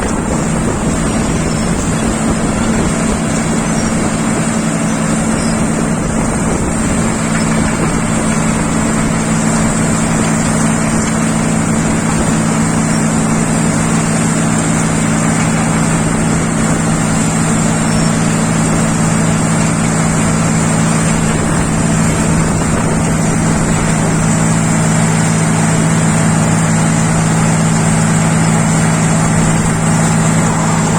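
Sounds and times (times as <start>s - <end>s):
motor humming: 0.0s - 30.9s.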